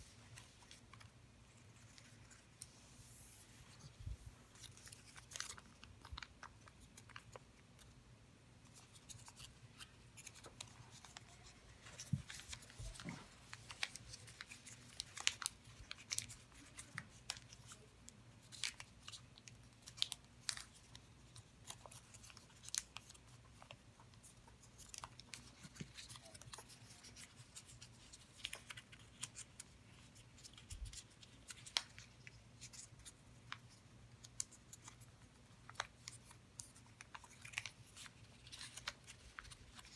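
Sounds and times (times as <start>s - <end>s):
paper crinkling while folded: 0.0s - 8.0s, 8.6s - 39.9s.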